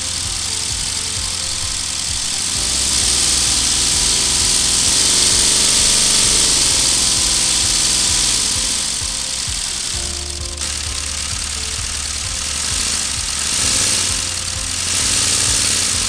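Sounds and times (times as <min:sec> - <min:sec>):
hiss of exhausting air: 0:00.0 - 0:16.0
pistons rattling: 0:00.0 - 0:16.0.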